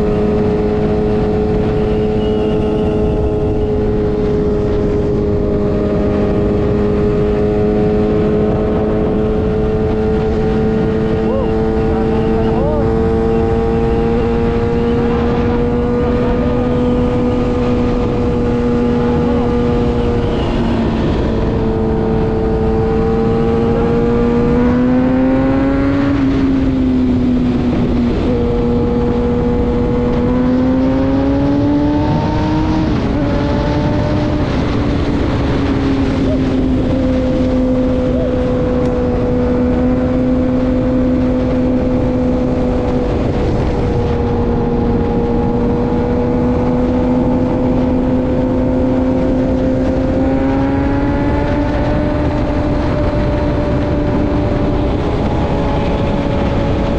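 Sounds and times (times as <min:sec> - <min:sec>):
motorcycle engine droning: 0:00.0 - 0:56.9
wind and road rush: 0:00.0 - 0:56.9.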